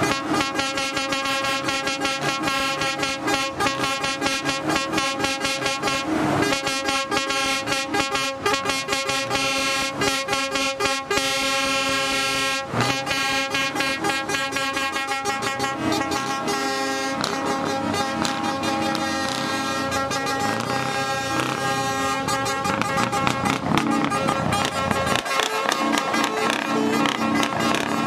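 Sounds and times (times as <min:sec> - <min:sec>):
truck air horns chord: 0:00.0 - 0:28.0.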